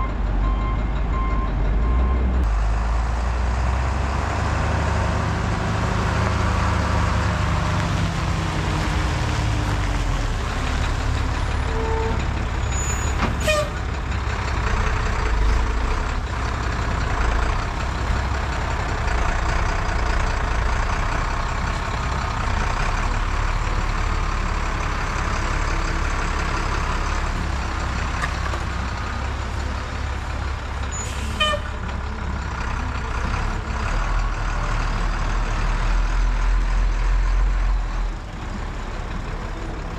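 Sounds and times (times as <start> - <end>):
heavy truck engine running: 0.0 - 39.9.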